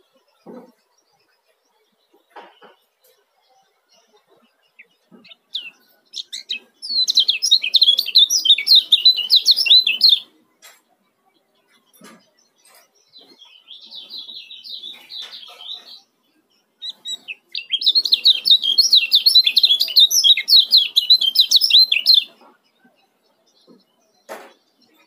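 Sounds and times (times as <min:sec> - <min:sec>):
bird singing chattering song: 0:00.0 - 0:25.0.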